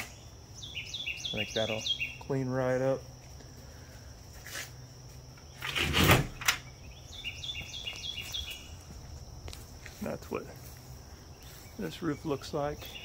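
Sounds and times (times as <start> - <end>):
high insect drone: 0.0 - 13.0
songbird chirping: 0.0 - 13.0.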